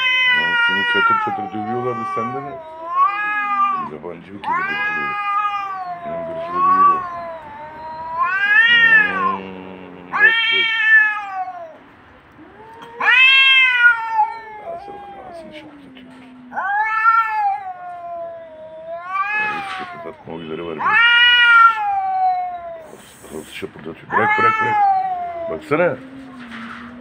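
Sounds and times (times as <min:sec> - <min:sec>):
low wavering cat yowl: 0:00.0 - 0:23.3, 0:24.1 - 0:27.0
cat growling: 0:00.0 - 0:27.0
cats yowling: 0:00.0 - 0:27.0.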